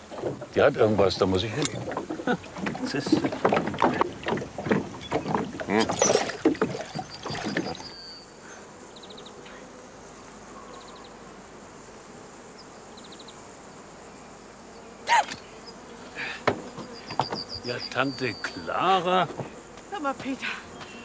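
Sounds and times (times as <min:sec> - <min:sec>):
insects chirping: 0:00.0 - 0:21.0
steady outdoor hiss: 0:00.0 - 0:21.0.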